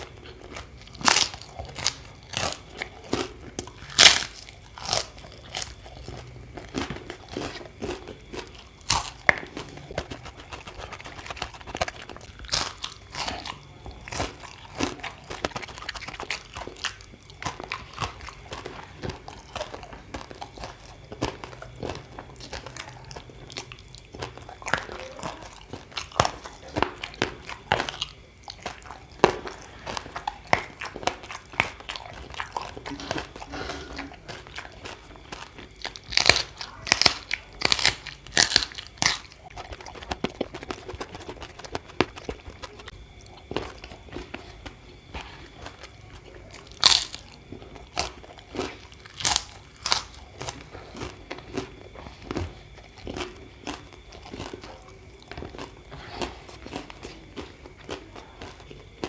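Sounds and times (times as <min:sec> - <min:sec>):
crunchy bites: 0:00.0 - 0:59.0
person chewing: 0:00.0 - 0:59.0.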